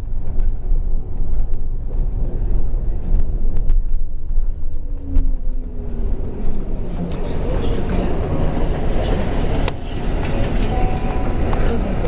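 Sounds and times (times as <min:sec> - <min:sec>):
falling whine: 0:00.0 - 0:11.5
bus engine and road rumble: 0:00.0 - 0:12.0.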